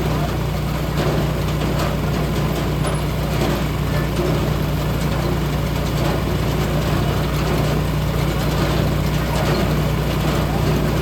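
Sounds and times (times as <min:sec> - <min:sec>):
heavy engine droning: 0:00.0 - 0:11.0.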